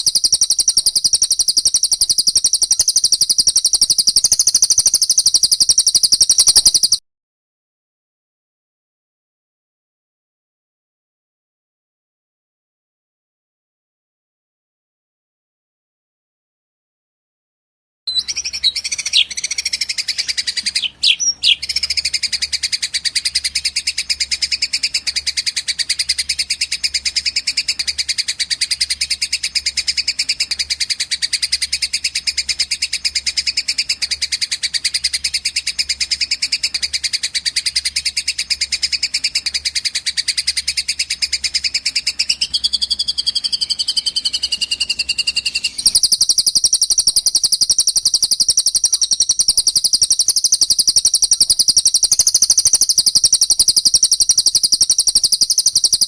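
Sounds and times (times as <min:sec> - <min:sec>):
lower bird voice: 0:00.0 - 0:07.0, 0:18.1 - 0:56.0
small birds chattering trill: 0:00.0 - 0:07.0, 0:18.1 - 0:56.0.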